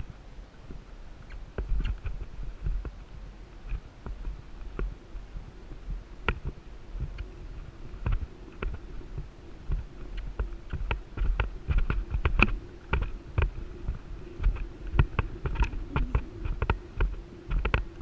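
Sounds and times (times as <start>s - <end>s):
wind rumble on microphone: 0.0s - 18.0s
hoofbeats on sand: 0.7s - 18.0s.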